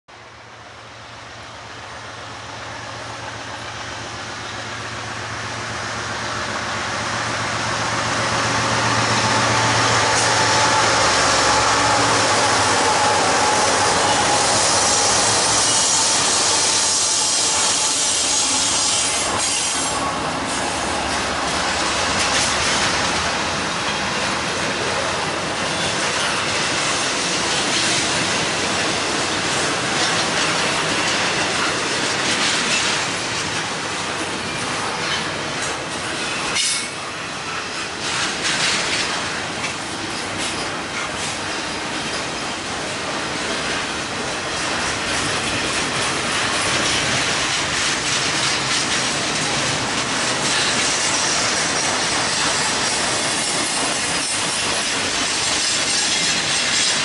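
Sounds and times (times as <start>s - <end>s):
diesel locomotive engine drone: 0.1s - 57.0s
train wheels rumbling and hissing: 0.1s - 57.0s.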